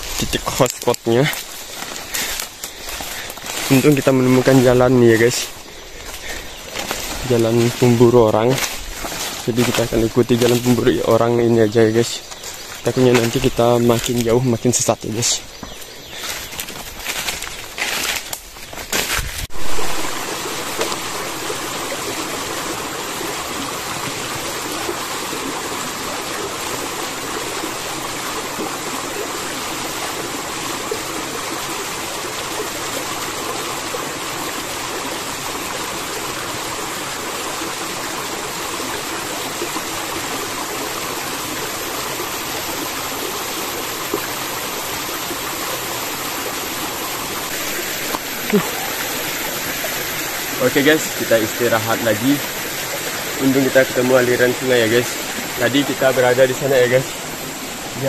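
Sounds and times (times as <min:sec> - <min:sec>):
stream water running over stones: 0:00.0 - 0:58.0.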